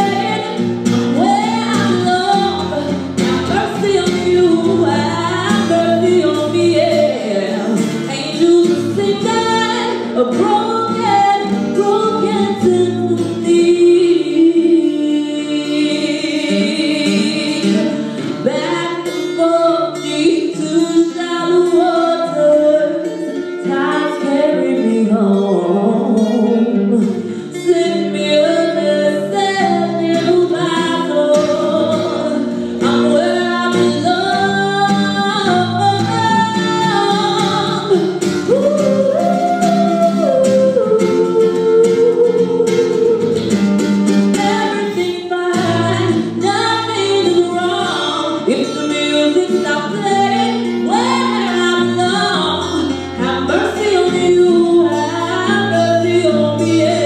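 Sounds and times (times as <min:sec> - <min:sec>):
flamenco acoustic guitar: 0:00.0 - 0:57.0
woman singing: 0:00.0 - 0:57.0.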